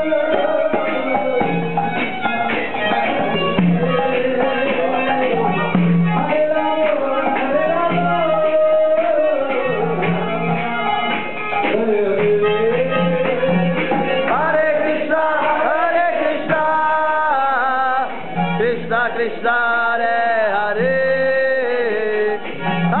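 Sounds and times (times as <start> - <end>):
men singing devotional chant: 0.0 - 1.9, 3.0 - 23.0
instrumental accompaniment: 0.0 - 23.0.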